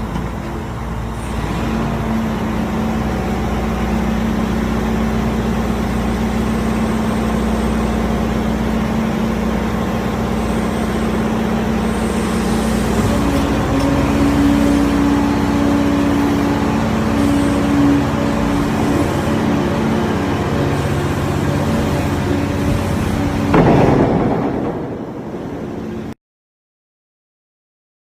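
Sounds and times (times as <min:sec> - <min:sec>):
excavator engine humming: 0:00.0 - 0:26.2.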